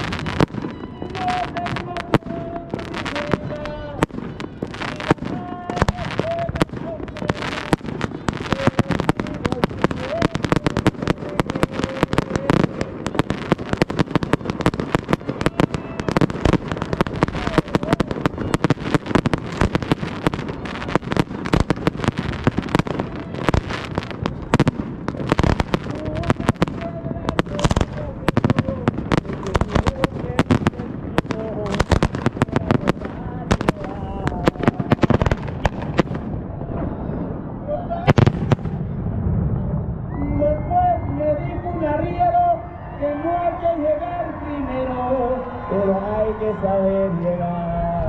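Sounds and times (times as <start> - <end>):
faint mariachi music: 0.0 - 36.0, 40.2 - 48.0
fireworks bangs and crackling: 0.0 - 48.0.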